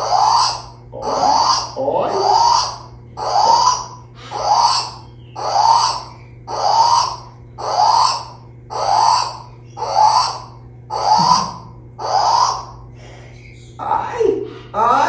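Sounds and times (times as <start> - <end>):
bird giving harsh call: 0.0 - 15.0.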